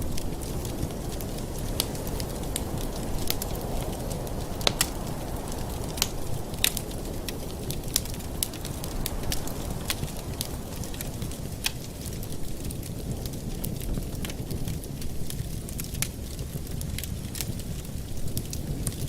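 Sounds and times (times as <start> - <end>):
fire crackles and pops: 0.0 - 19.0
fire rumbling: 0.0 - 19.0.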